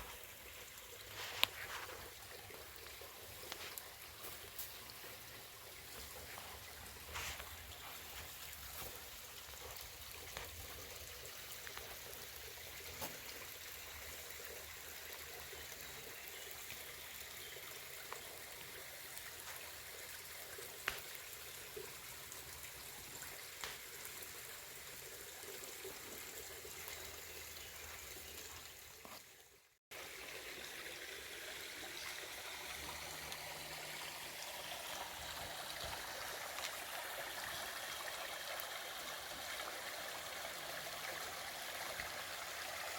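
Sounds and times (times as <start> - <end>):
stream water trickling: 0.0 - 42.9.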